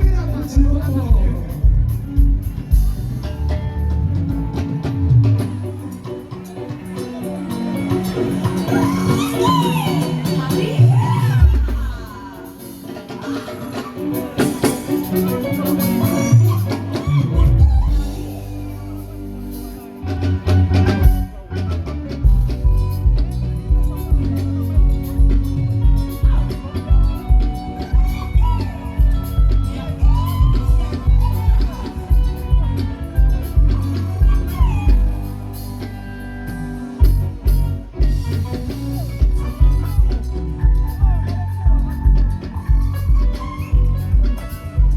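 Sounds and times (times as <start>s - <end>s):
band music with drums: 0.0s - 44.9s.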